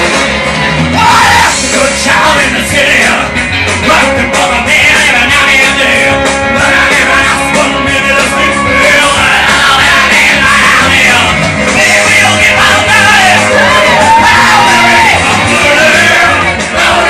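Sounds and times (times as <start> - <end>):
loud rock music: 0.0 - 17.0
person singing and shouting: 0.9 - 17.0.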